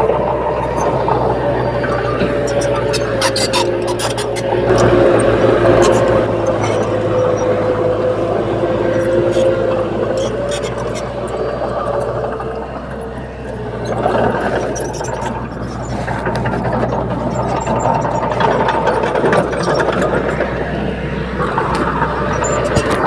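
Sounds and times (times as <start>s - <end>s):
heavy diesel engine under load: 0.0s - 23.0s
metal clanks and rattles: 0.4s - 23.0s.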